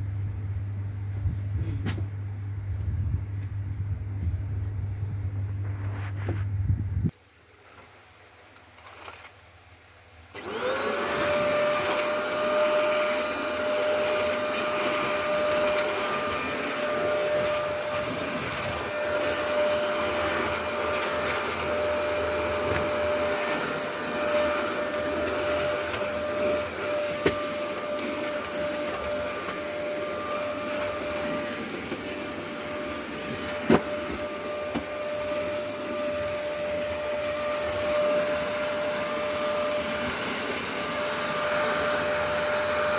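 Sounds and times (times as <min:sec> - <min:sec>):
vacuum cleaner running: 0:00.0 - 0:07.2, 0:10.3 - 0:42.9.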